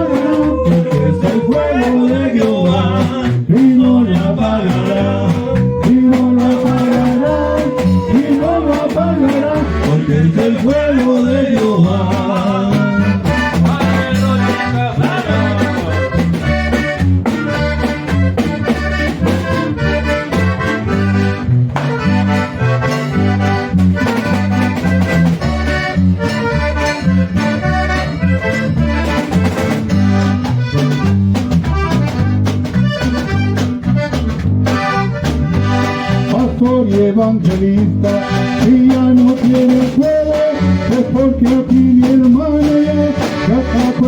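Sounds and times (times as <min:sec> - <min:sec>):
accordion melody: 0:00.0 - 0:44.0
bass line: 0:00.0 - 0:44.0
regular beat: 0:00.0 - 0:44.0.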